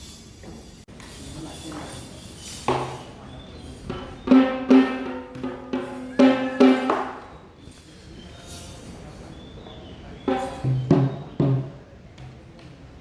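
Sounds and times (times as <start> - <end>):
drums with ringing pitched strokes: 0.0 - 11.8.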